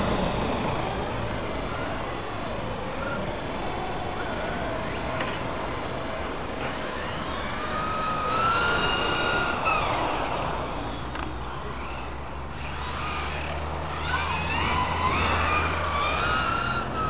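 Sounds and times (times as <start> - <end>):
steady rushing noise: 0.0 - 14.0
model car motor whining: 0.0 - 17.0.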